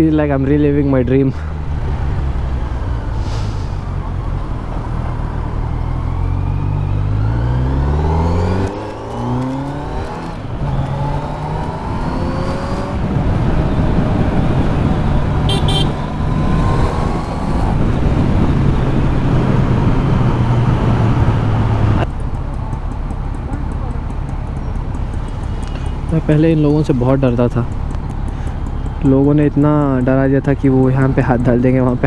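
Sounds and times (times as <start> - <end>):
motorcycle engine accelerating: 1.4 - 32.0.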